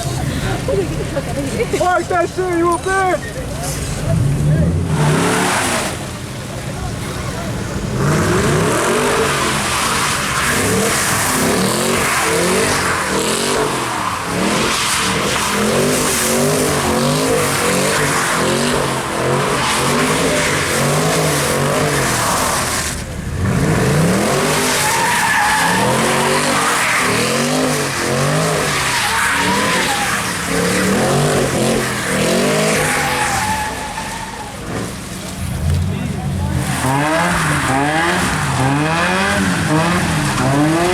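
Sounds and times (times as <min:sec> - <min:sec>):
tyres spinning and skidding: 0:00.0 - 0:40.9
car engine revving: 0:03.4 - 0:40.9.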